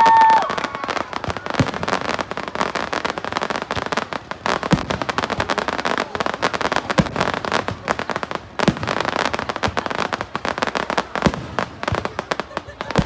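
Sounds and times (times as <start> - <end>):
fireworks booms: 0.0 - 13.0
fireworks crackling: 0.0 - 13.0.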